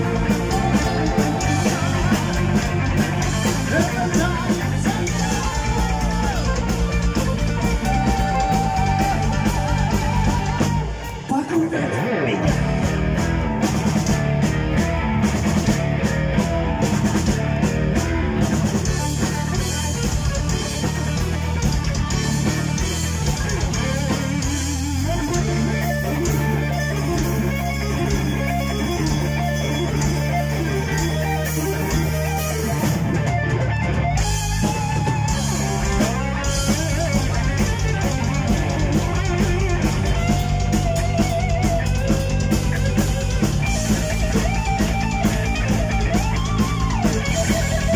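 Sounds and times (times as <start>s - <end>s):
heavy metal band playing live: 0.0s - 47.9s.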